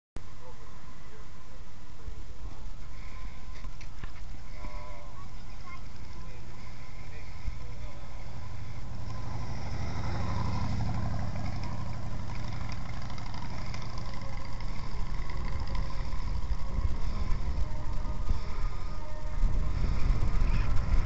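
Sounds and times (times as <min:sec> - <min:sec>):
engine rumbling: 0:00.2 - 0:21.0.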